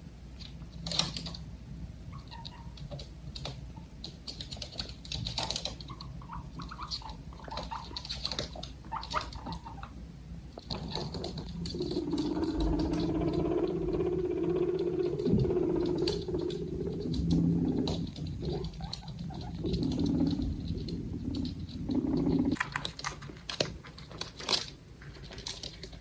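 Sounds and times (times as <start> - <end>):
guinea pig purring: 0.0 - 26.0
guinea pig squeaks: 2.1 - 3.0, 3.7 - 10.0, 10.6 - 24.6.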